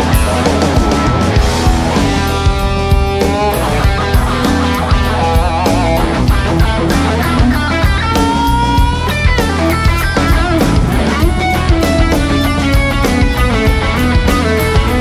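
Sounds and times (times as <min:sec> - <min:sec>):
bass guitar: 0:00.0 - 0:15.0
electric guitar solo: 0:00.0 - 0:15.0
steady drum beat: 0:00.0 - 0:15.0.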